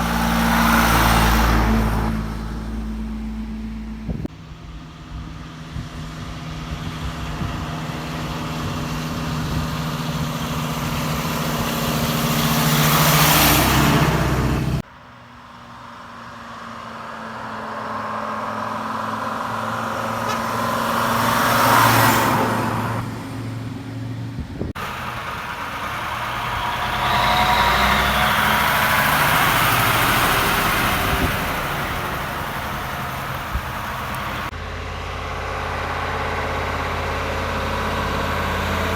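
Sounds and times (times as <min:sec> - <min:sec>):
diesel lorries driving past: 0:00.0 - 0:05.7, 0:06.3 - 0:38.9.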